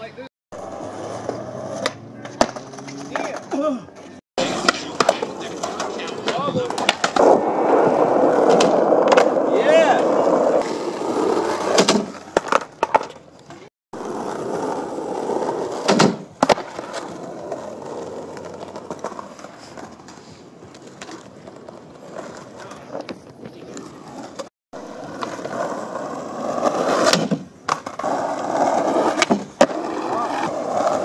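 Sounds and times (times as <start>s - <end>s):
skateboard wheels rolling on concrete: 0.0s - 31.0s
skateboard clacking on ground: 0.6s - 7.4s, 8.2s - 10.8s, 11.6s - 14.2s, 15.6s - 31.0s.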